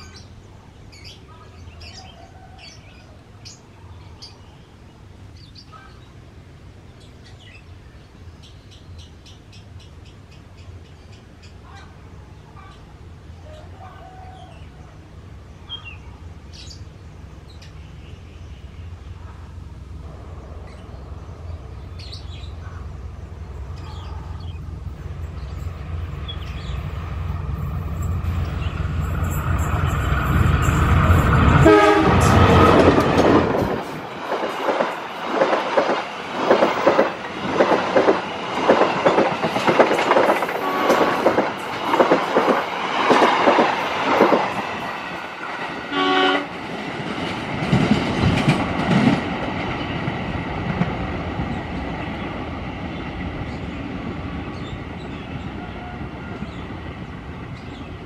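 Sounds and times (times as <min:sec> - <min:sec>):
train rushing past: 0:00.0 - 0:58.0
locomotive engine hum: 0:04.9 - 0:58.0
birds chirping: 0:06.8 - 0:46.5, 0:48.4 - 0:58.0.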